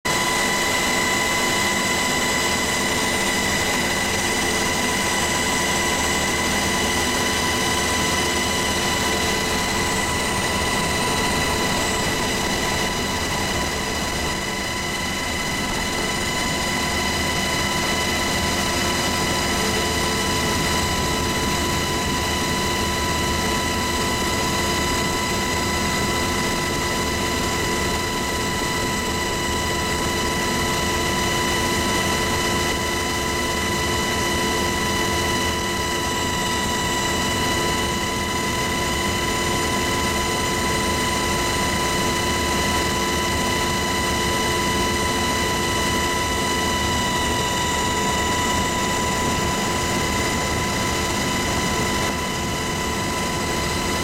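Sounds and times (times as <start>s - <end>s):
helicopter rotor and turbine drone: 0.0s - 54.0s
constant high whine: 0.1s - 54.0s.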